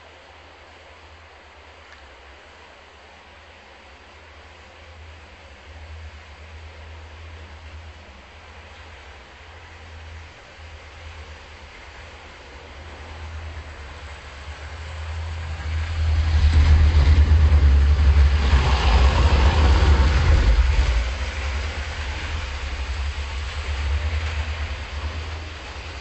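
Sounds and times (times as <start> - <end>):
model locomotive rumbling buzz: 4.8 - 26.0.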